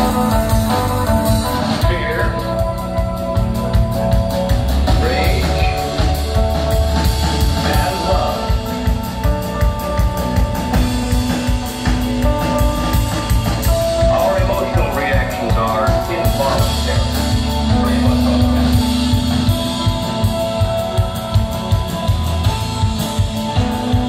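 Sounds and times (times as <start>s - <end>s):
drum kit beat: 0.0s - 24.0s
electric guitar: 0.0s - 24.0s
heavy bass: 0.0s - 24.0s.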